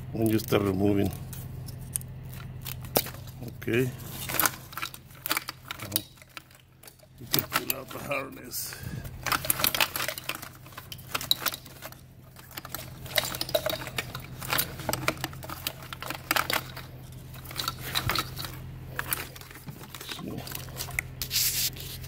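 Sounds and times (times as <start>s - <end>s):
steady low hum: 0.0s - 22.0s
plastic loom rattling and rubbing: 3.1s - 21.0s.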